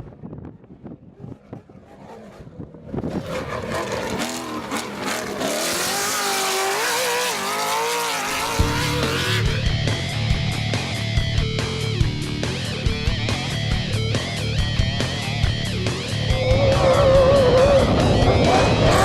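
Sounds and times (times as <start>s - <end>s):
race vehicle engine revving: 0.9s - 19.0s.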